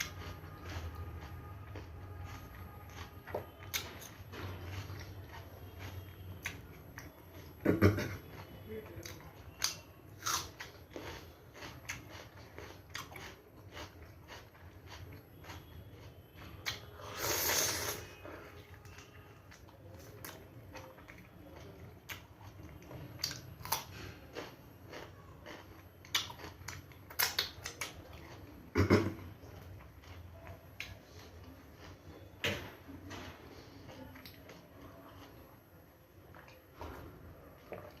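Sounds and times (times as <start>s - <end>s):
person chewing crunchy food: 0.0s - 38.0s.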